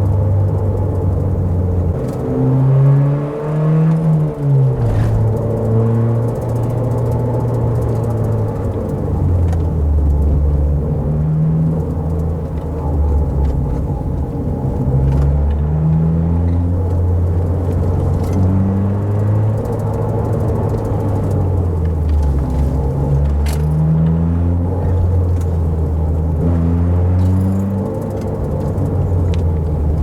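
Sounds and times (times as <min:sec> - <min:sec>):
car engine shifting gears: 0:00.0 - 0:30.0
road and tyre noise: 0:00.0 - 0:30.0.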